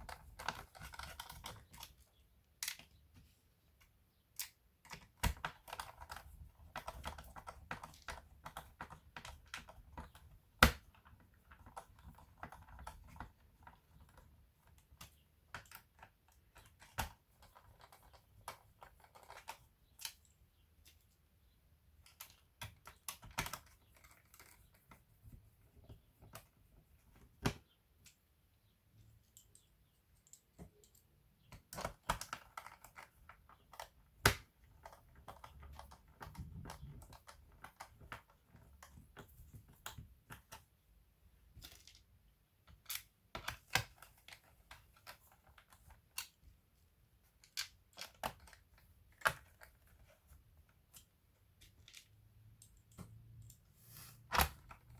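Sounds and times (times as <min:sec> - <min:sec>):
hands clicking and tapping laptop: 0:00.0 - 0:54.9.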